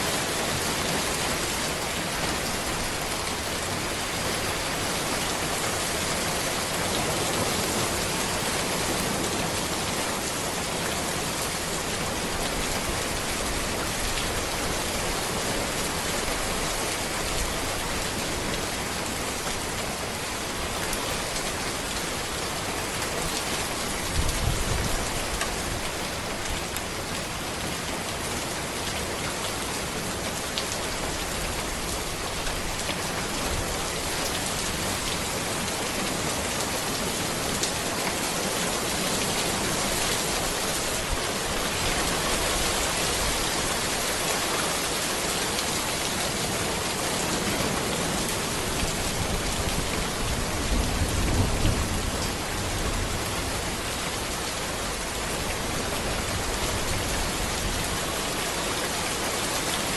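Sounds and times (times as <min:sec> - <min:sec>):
rain falling on road and trees: 0:00.0 - 0:59.9.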